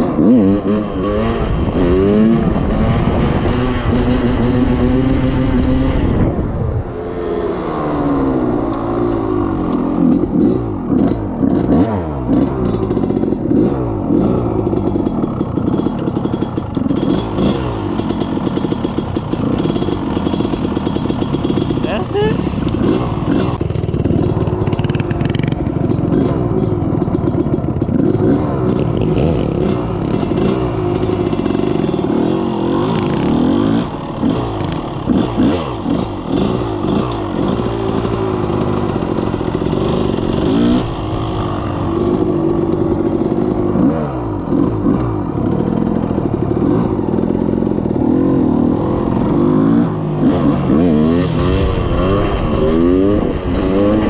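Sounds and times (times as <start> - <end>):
quad engine revving: 0.0 - 54.0.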